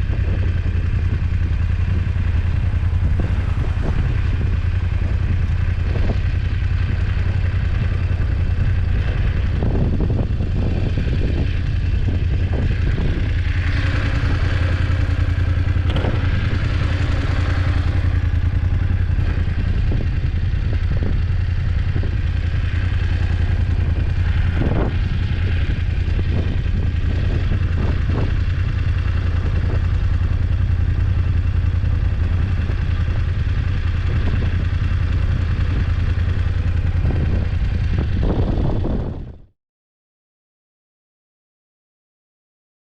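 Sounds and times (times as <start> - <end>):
motorcycle engine running: 0.0 - 39.5.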